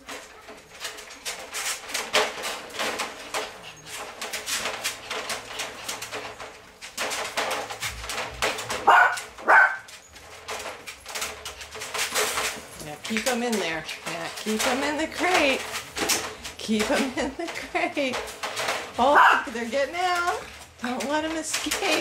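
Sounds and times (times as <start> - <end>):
puppies scuffling and scratching: 0.0 - 22.0.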